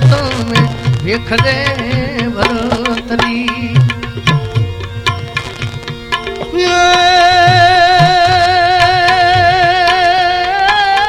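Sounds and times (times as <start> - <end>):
hand drums beating: 0.0 - 11.0
loud held wavering melody: 0.0 - 11.0.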